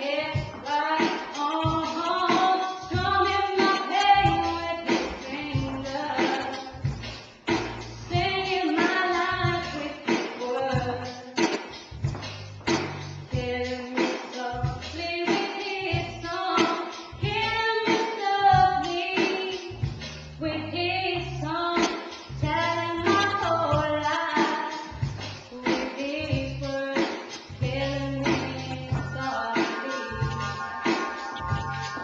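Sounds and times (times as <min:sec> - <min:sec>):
woman singing slow pop song: 0:00.0 - 0:07.1, 0:08.1 - 0:11.6, 0:13.3 - 0:31.5
backing track with bass and beat: 0:00.0 - 0:32.0.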